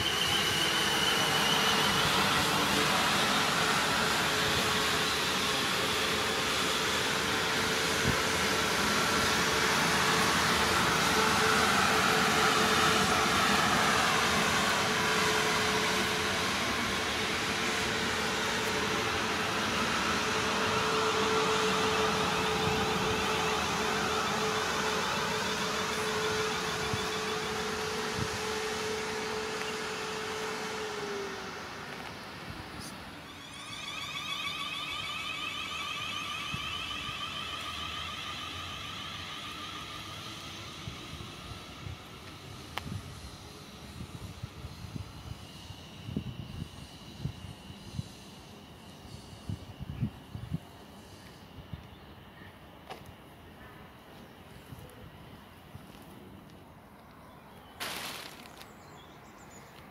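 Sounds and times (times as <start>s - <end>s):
steady hum: 0.0s - 59.6s
train passing on rails: 0.0s - 59.9s.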